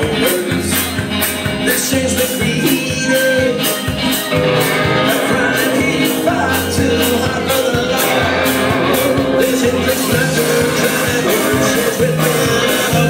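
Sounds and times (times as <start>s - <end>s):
banjo: 0.0s - 13.0s
electric guitar: 0.0s - 13.0s
man singing: 0.0s - 13.0s
steady drum beat: 0.0s - 13.0s
upright bass: 0.0s - 13.0s.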